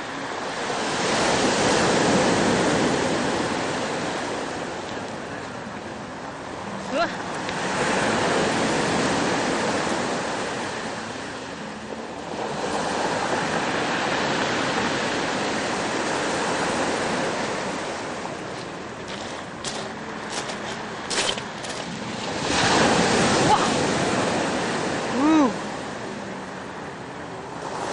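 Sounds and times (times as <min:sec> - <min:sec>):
ocean waves on shore: 0:00.0 - 0:27.9.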